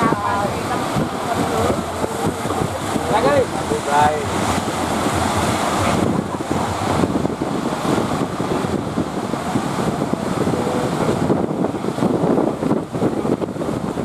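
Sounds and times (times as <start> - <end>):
surf rushing: 0.0 - 14.0
wind buffeting microphone: 0.0 - 14.0.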